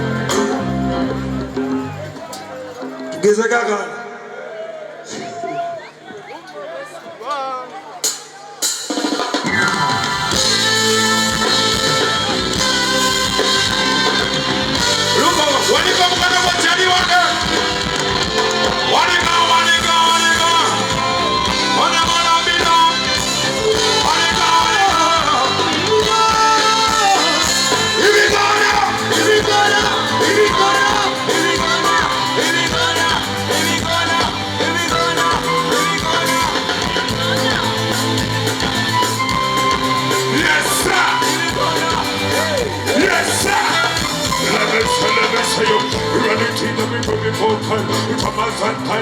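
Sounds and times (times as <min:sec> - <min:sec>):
guitar: 0:00.0 - 0:03.2, 0:09.2 - 0:49.0
live band music: 0:00.0 - 0:03.4, 0:08.0 - 0:49.0
steady drum beat: 0:08.0 - 0:48.6
person singing: 0:09.5 - 0:49.0.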